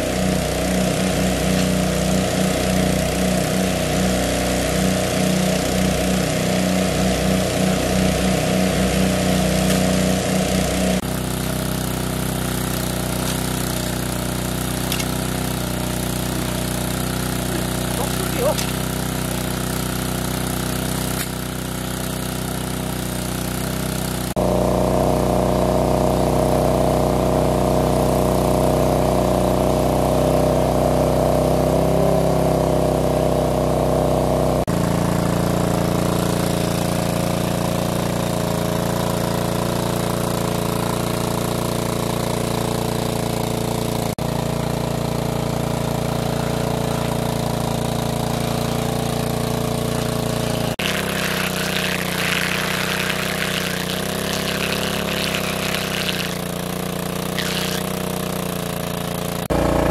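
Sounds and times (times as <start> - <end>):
small engine driving water pump: 0.0 - 59.9.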